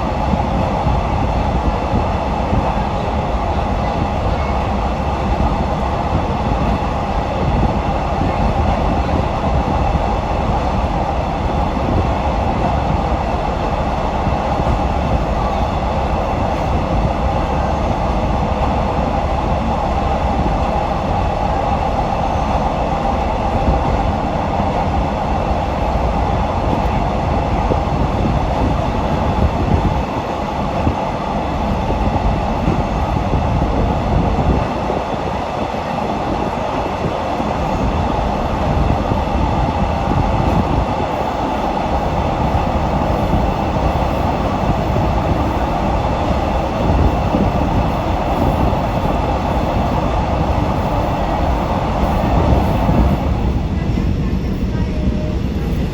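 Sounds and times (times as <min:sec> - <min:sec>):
train wheels on rails: 0:00.0 - 0:55.9.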